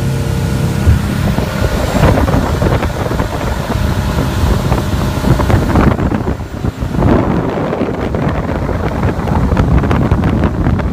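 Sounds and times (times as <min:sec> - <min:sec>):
boat engine: 0:00.0 - 0:10.9
hull rushing through water: 0:00.0 - 0:10.9
wind buffeting microphone: 0:00.0 - 0:10.9.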